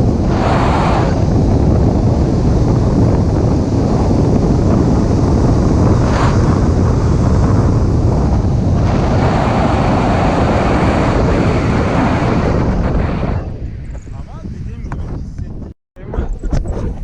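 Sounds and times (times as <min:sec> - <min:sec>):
airflow buffeting microphone: 0:00.0 - 0:17.0.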